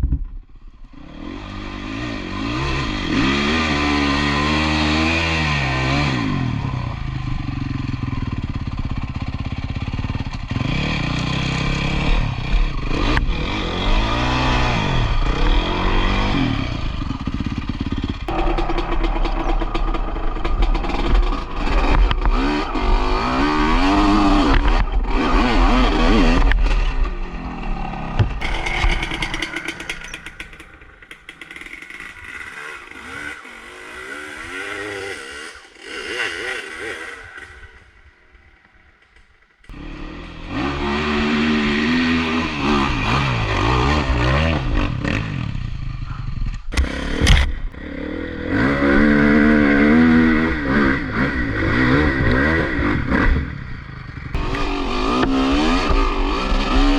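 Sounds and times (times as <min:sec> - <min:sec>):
motocross bike engine revving: 0:00.8 - 0:56.9.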